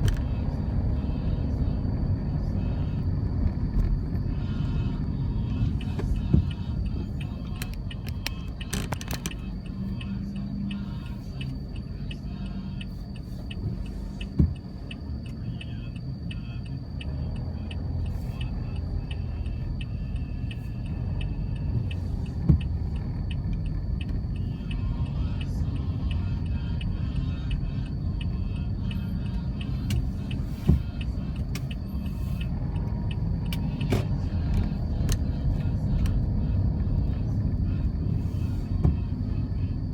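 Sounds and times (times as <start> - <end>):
low road traffic rumble: 0.0 - 39.9.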